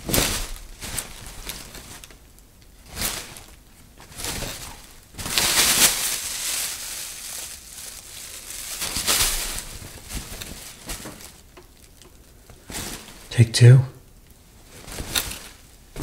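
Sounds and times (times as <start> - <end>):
plastic bag crinkling: 0.0 - 13.3, 14.6 - 16.0.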